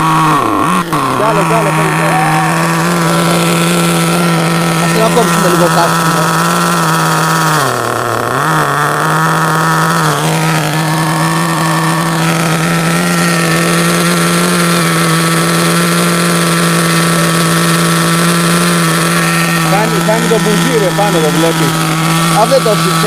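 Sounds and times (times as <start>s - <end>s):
small two-stroke engine idling: 0.0s - 23.0s.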